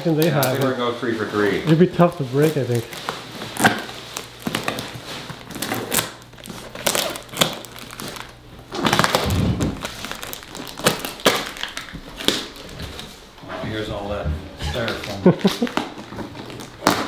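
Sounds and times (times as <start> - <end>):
cardboard and styrofoam crinkling: 0.0 - 17.0.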